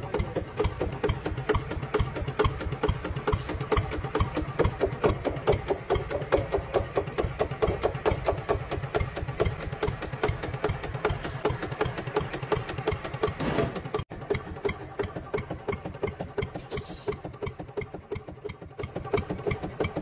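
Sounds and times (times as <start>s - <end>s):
model tractor engine putting: 0.0s - 20.0s.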